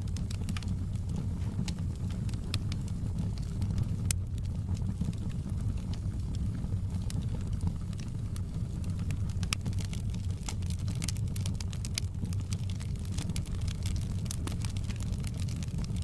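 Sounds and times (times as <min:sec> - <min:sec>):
fire crackles and pops: 0:00.0 - 0:16.0
fire rumbling in fireplace: 0:00.0 - 0:16.0.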